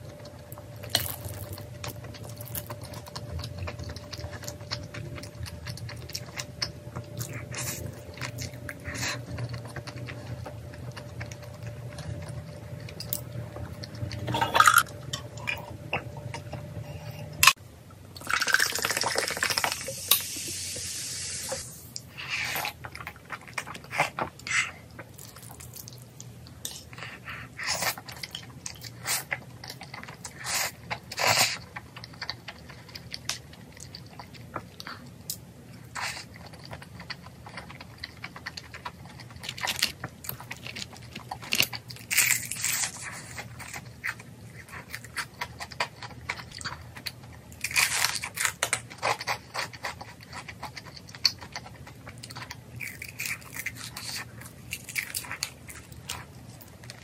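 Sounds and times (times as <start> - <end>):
chewing: 0.1 - 17.6, 22.0 - 57.0.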